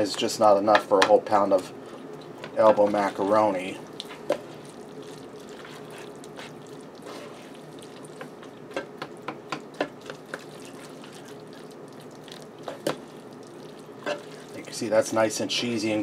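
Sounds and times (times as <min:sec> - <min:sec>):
faint steady hum: 0:00.0 - 0:16.0
spoon stirring thick food: 0:00.1 - 0:14.8.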